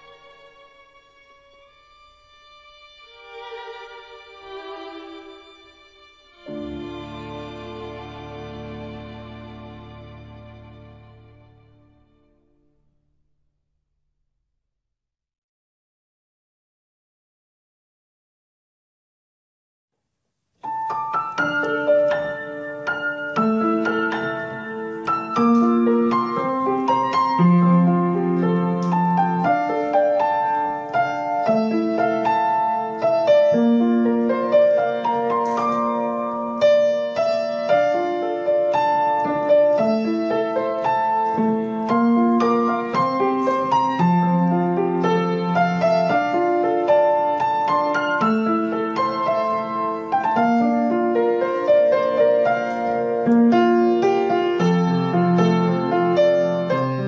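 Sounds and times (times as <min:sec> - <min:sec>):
solo piano music: 0:03.3 - 0:12.8, 0:20.6 - 0:57.0.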